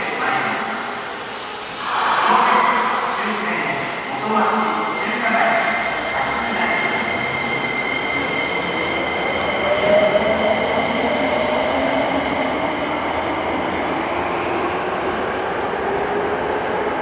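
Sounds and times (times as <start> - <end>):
subway train running noise: 0.0 - 17.0.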